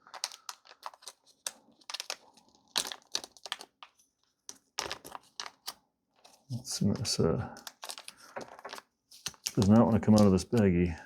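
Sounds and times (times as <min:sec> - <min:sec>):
plastic baggie crinkling: 0:00.0 - 0:04.0, 0:04.7 - 0:05.7, 0:06.7 - 0:10.7.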